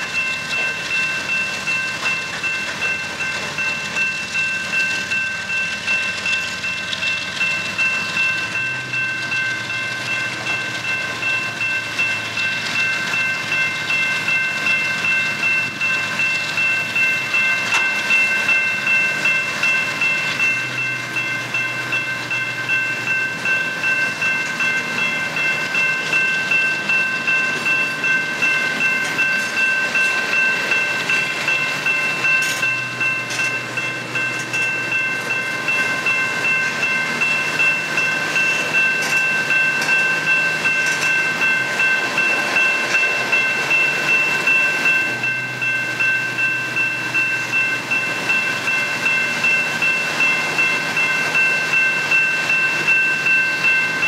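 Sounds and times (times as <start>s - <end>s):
crossing warning bell ringing: 0.0s - 54.0s
train wheels clattering over rail joints: 0.0s - 54.0s.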